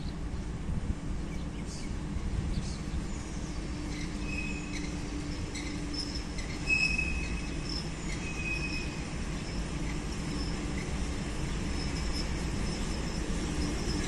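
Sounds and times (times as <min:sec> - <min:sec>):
distant train rumbling: 0:00.0 - 0:14.0
high train squeals: 0:01.2 - 0:14.0.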